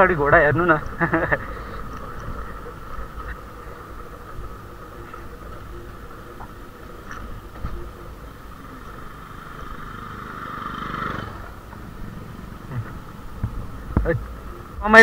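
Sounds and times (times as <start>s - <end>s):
motorcycle passing: 0.0s - 15.0s
wind and road noise: 0.0s - 15.0s.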